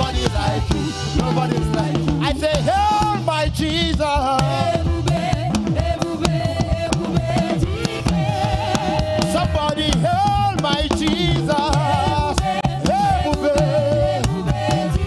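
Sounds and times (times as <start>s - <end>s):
bass line: 0.0s - 15.0s
drum kit: 0.0s - 15.0s
gospel music: 0.0s - 15.0s.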